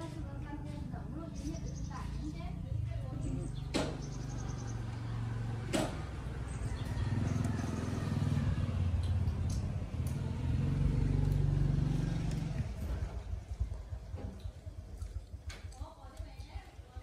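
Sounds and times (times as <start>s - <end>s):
engine running: 0.0s - 15.4s.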